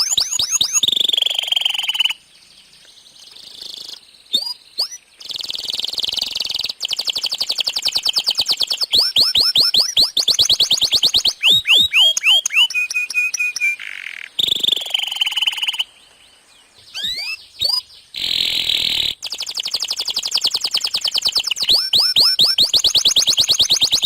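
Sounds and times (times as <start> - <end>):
canary singing: 0.0 - 15.9, 16.7 - 24.0.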